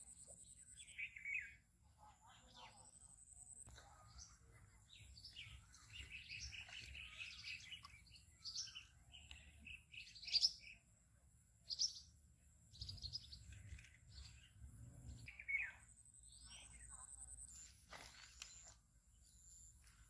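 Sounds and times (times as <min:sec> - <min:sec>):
small birds chirping: 0:00.0 - 0:11.0, 0:11.6 - 0:20.0.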